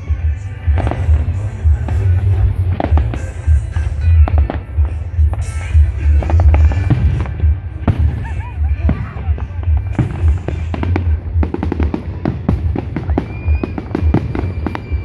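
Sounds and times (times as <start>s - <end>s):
fireworks bangs and crackle: 0.0s - 15.0s
loud music with heavy bass: 0.0s - 15.0s.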